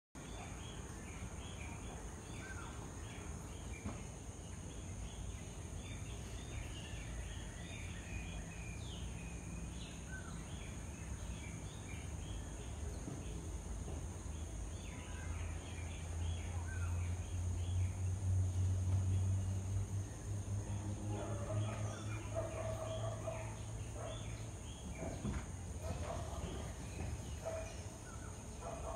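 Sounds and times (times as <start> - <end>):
small birds chirping and twittering: 0.2 - 28.9.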